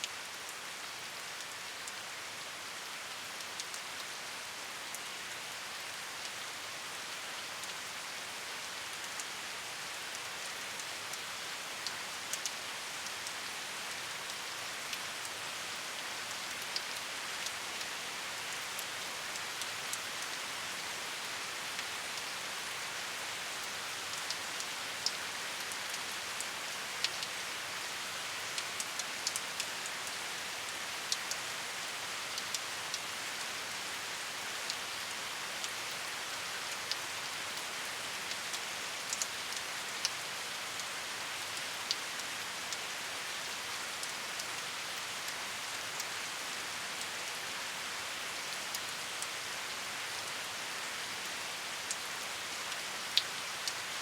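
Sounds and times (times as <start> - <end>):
rain falling: 0.0 - 54.0
raindrops ticking on a surface: 0.0 - 54.0.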